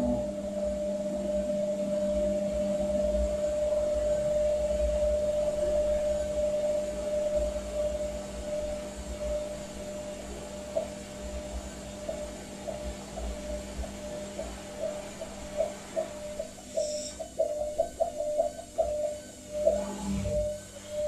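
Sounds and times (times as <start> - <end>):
washing machine running: 0.0 - 21.0.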